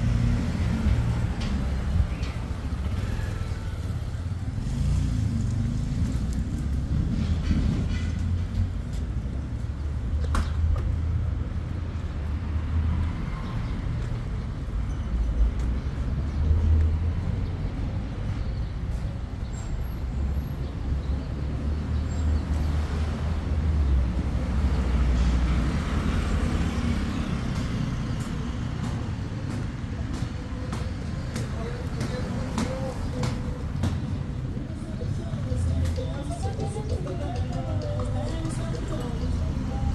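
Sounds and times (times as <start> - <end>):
cars driving on city street: 0.0 - 39.9.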